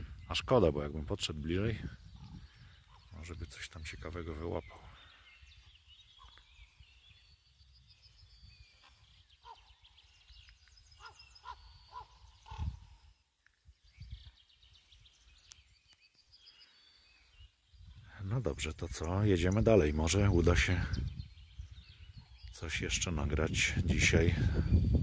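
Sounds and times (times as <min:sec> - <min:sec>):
bird chirps: 0:00.0 - 0:25.0
songbird trill: 0:00.0 - 0:25.0.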